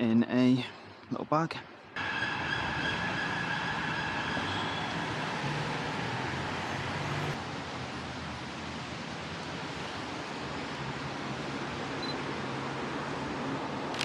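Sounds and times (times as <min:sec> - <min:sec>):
traffic hiss on wet street: 0:02.0 - 0:14.0
vehicle engine hum: 0:02.0 - 0:14.0.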